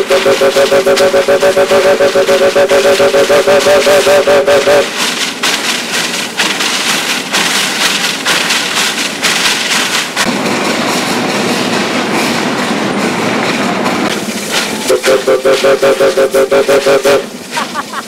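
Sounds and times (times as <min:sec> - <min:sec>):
steam train running: 0:00.0 - 0:18.0.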